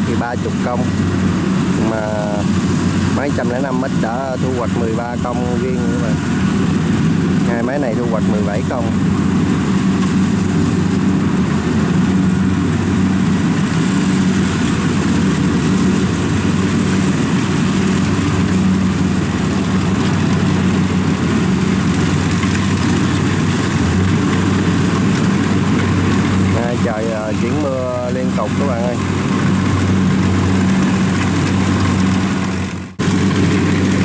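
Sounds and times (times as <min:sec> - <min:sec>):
combine harvester engine: 0:00.0 - 0:34.0.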